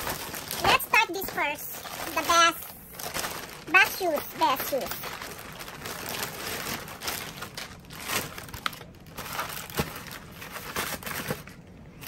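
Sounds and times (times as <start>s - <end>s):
paper wrapping rustling: 0.0s - 12.0s.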